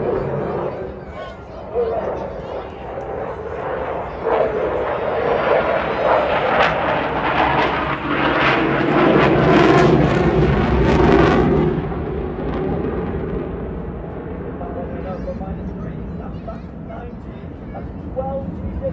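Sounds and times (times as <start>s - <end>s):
jet engines passing overhead: 0.0s - 18.9s.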